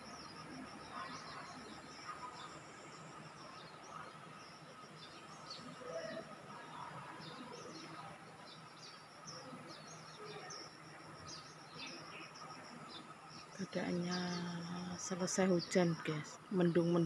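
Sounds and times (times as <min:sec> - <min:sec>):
faint steady background hum: 0:00.0 - 0:17.0
small birds chirping: 0:00.0 - 0:17.0.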